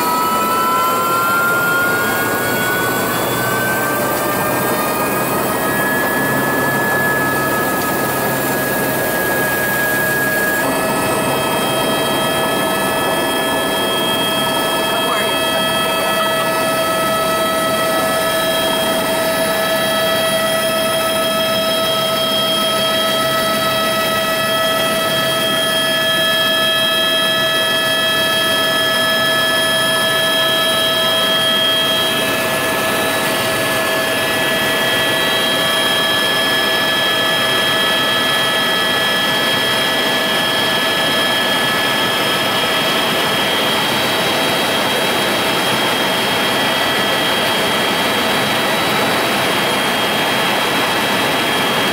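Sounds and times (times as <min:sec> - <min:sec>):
constant whine: 0:00.0 - 0:51.9
loud engine drone: 0:00.0 - 0:51.9.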